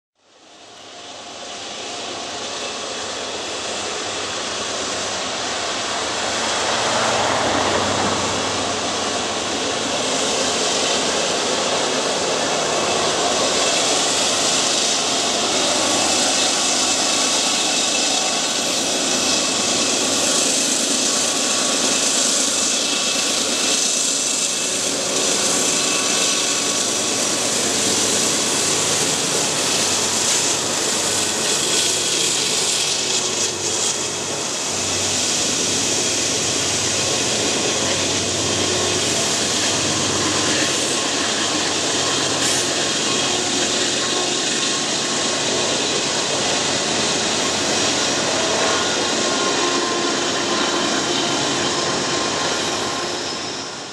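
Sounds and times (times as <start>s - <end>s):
diesel locomotive engine drone: 0.2s - 53.9s
train wheels rolling on rails: 0.8s - 53.9s.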